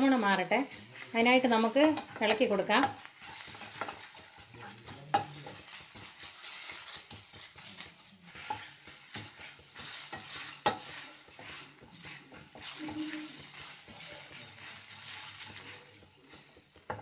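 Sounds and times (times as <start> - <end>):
light sizzle: 0.0 - 17.0
spatula scraping frying pan: 0.0 - 17.0.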